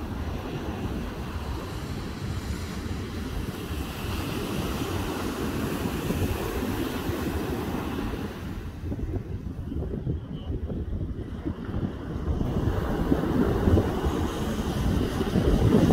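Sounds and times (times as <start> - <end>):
ocean surf breaking on beach: 0.0 - 15.9
wind rumbling on microphone: 0.0 - 15.9.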